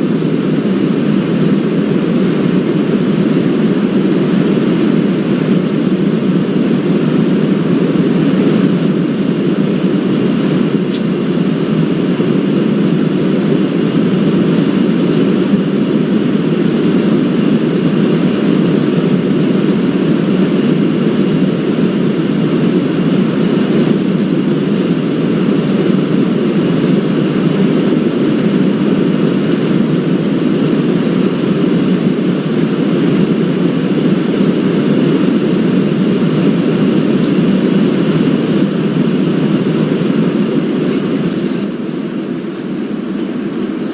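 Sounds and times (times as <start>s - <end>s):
airliner cabin rumble: 0.0s - 43.9s.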